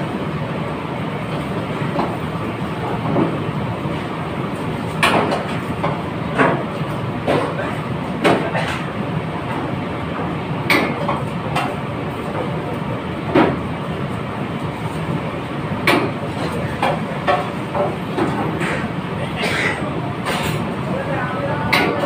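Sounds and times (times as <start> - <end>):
steady kitchen rush: 0.0 - 22.0.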